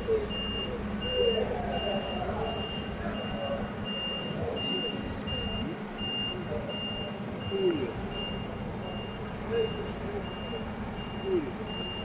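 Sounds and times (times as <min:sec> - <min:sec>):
truck engine running: 0:00.0 - 0:12.0
truck reversing alarm beeping: 0:00.0 - 0:12.0.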